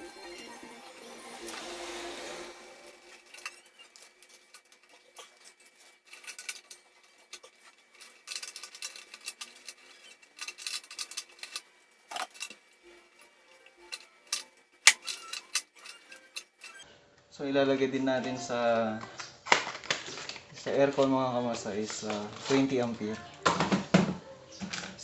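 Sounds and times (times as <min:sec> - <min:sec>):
faint background music: 0:00.0 - 0:25.0.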